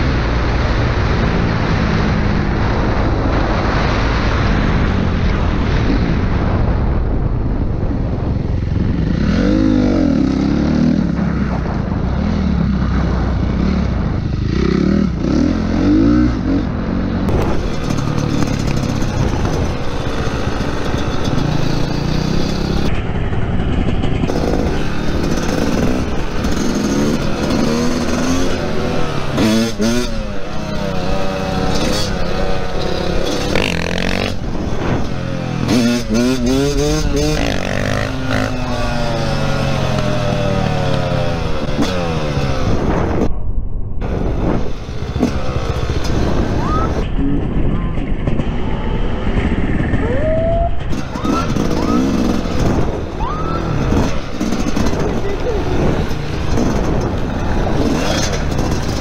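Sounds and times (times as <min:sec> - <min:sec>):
dirt bike engines revving: 0:07.6 - 0:43.3, 0:44.0 - 0:59.0.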